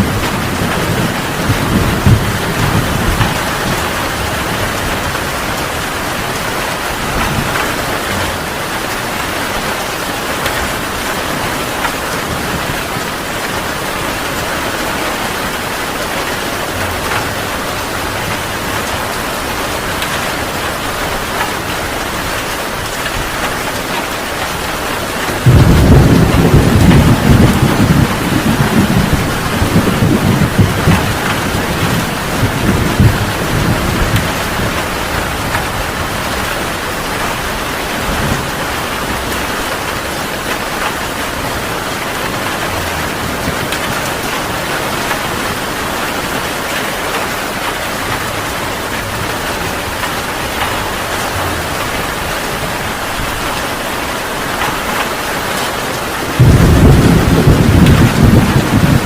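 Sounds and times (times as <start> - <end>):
heavy rain falling: 0.0 - 59.0
thunder rumbling: 0.0 - 59.0.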